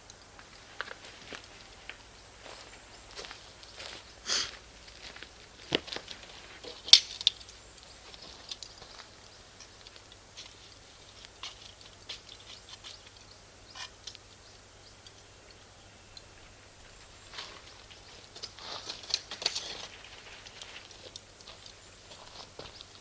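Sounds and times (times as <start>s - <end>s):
bonfire crackling and popping: 2.7s - 23.0s.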